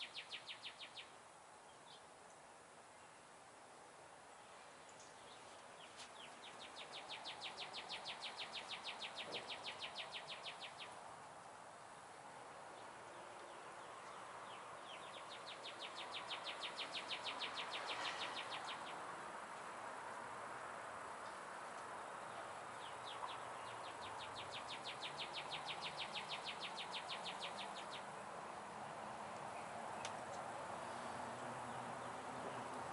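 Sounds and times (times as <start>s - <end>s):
steady background hiss: 0.0s - 32.9s.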